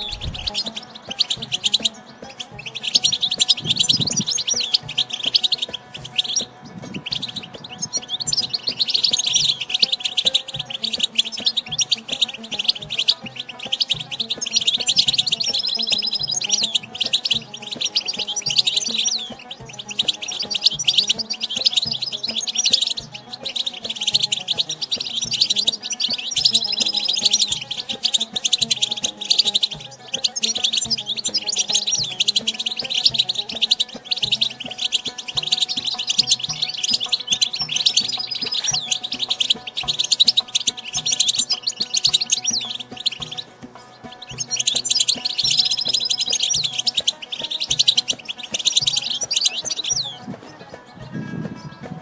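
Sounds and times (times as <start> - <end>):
goldfinch twittering: 0.0 - 52.0
soft background music: 0.0 - 52.0.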